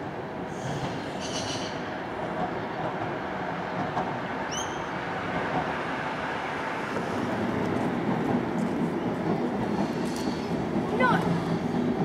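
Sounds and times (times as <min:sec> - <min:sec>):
road traffic: 0:00.0 - 0:12.0
tram rolling on street tracks: 0:00.0 - 0:12.0.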